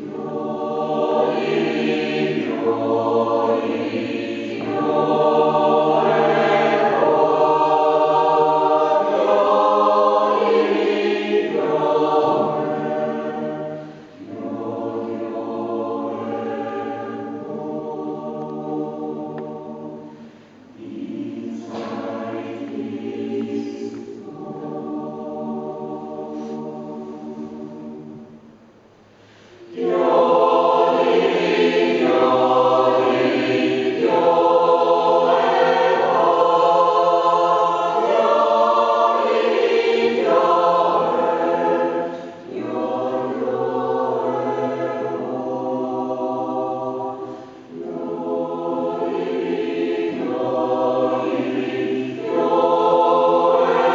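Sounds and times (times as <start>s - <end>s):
mixed choir singing yodel song: 0.0s - 28.8s, 29.4s - 53.9s.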